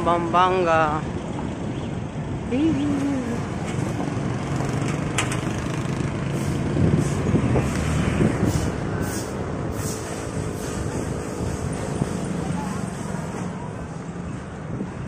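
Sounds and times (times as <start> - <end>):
vehicle engine humming: 0.0 - 15.0
wind buffeting microphone: 1.4 - 15.0.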